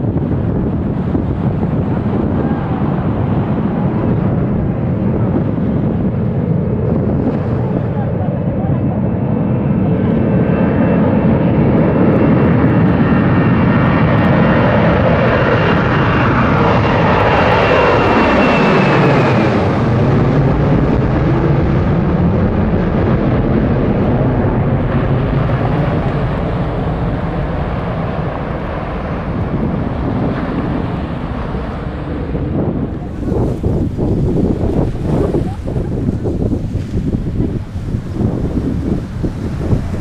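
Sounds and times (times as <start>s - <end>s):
jet engines rumbling and whining: 0.0s - 40.0s.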